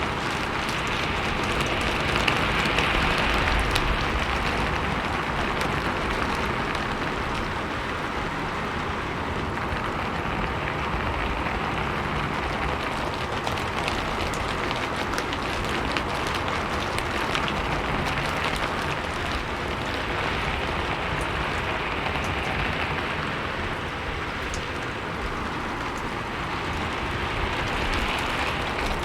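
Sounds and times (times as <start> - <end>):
rain on a rooftop: 0.0 - 29.0.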